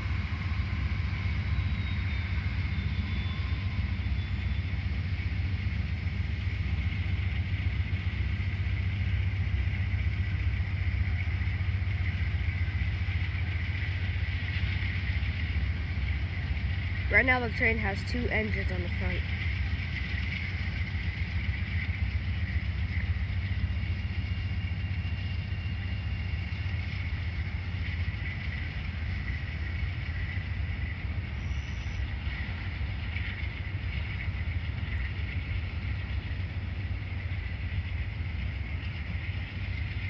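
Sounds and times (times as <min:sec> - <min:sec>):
diesel locomotive rumble: 0:00.0 - 0:40.0.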